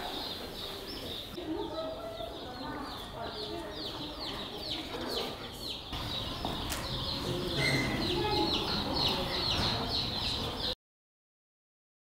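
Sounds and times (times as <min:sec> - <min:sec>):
high chirping animal calls: 0:00.0 - 0:10.8.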